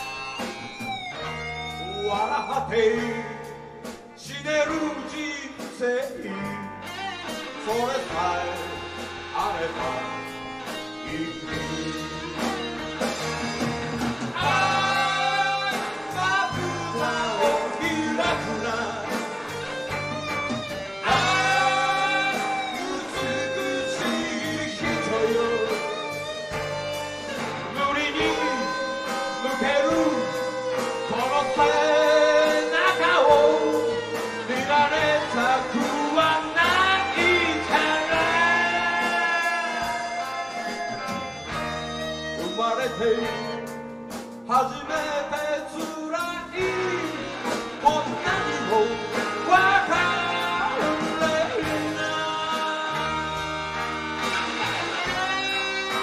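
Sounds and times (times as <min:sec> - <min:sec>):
rock band playing a ballad: 0:00.0 - 0:56.0.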